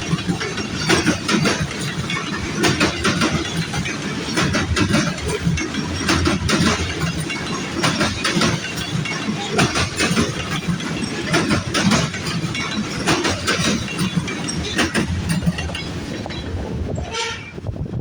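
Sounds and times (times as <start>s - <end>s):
train wheels clicking over joints: 0.0s - 17.8s
train rumble: 0.0s - 18.0s.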